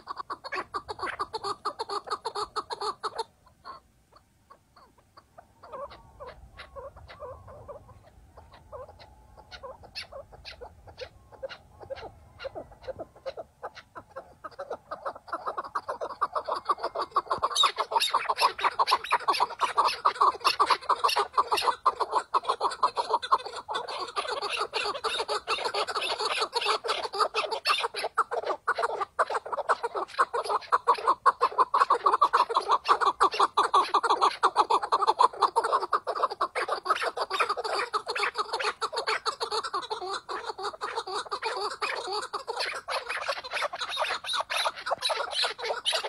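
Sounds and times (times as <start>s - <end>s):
partridge clucking calls: 0.0s - 46.0s.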